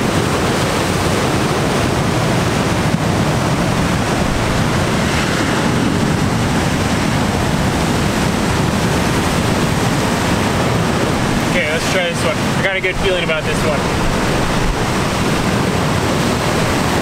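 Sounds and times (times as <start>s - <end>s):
ocean surf breaking over rocks: 0.0s - 17.0s.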